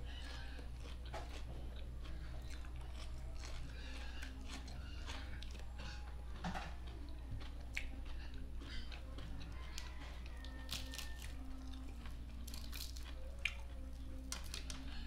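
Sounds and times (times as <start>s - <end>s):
man chewing wetly: 0.0s - 15.0s.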